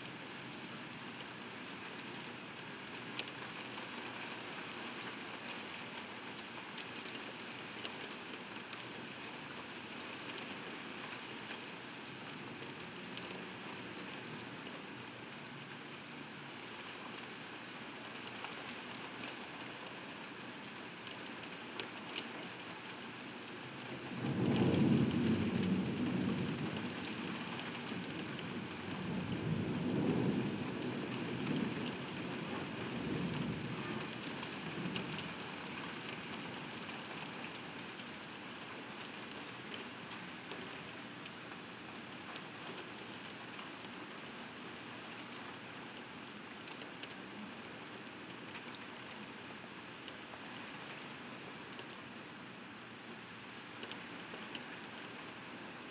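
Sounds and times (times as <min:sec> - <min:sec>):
heavy rain on window glass: 0:00.0 - 0:55.9.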